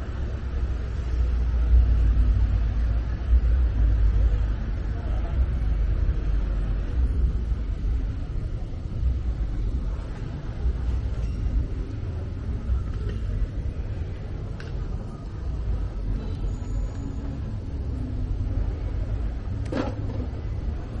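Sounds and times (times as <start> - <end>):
faint voices: 0.0 - 21.0
low city rumble: 0.0 - 21.0.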